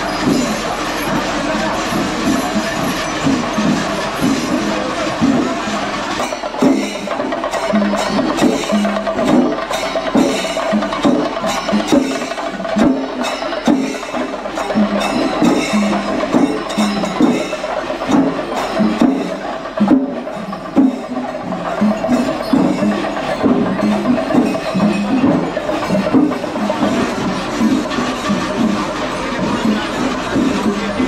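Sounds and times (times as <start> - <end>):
cymbals: 0.0 - 31.0
drums struck with sticks: 0.0 - 31.0.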